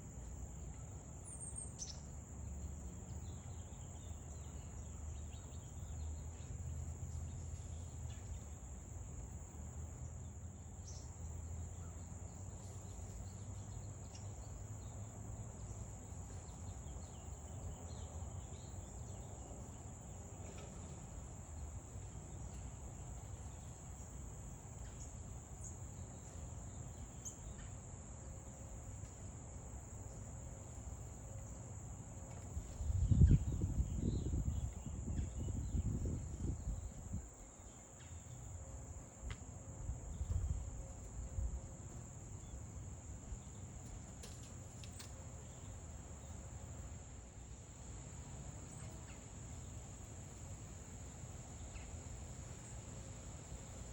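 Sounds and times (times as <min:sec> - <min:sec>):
insects chirring chorus: 0:00.0 - 0:53.9.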